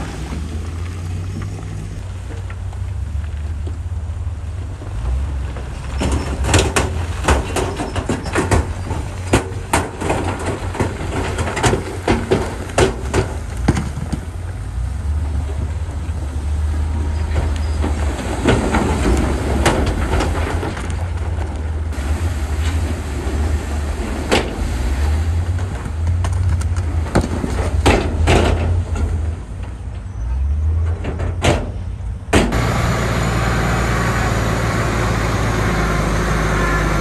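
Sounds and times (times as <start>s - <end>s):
heavy diesel machinery rumble: 0.0s - 37.0s.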